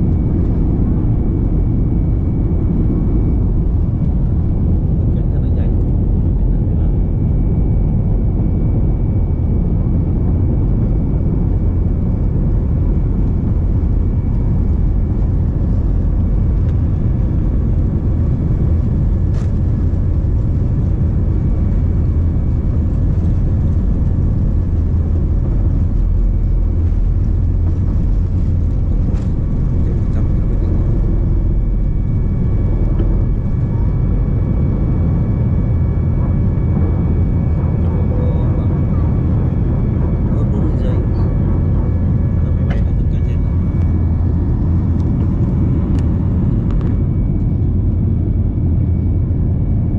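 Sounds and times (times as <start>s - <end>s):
airliner engines roaring: 0.0s - 49.9s
faint whining tones: 0.0s - 49.9s.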